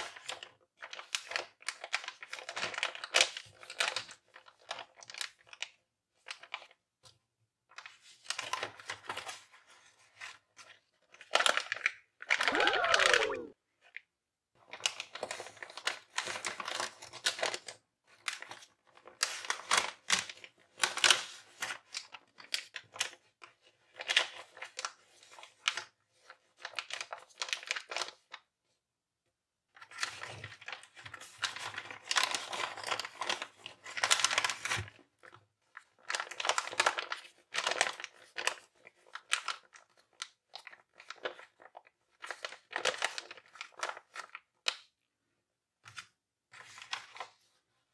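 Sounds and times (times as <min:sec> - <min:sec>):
stiff paper crinkling and rustling: 0:00.0 - 0:13.5, 0:14.6 - 0:28.8, 0:29.8 - 0:45.0, 0:45.8 - 0:47.9.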